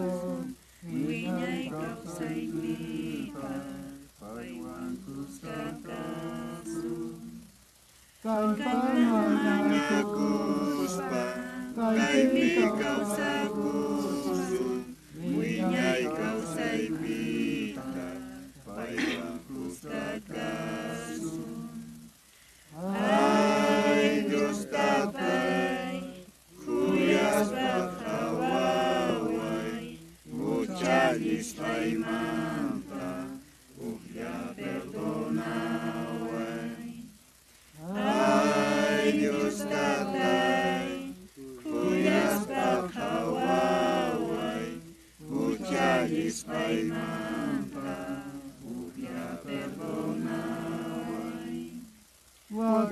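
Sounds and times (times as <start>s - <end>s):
voices singing a hymn unaccompanied: 0.0s - 52.9s.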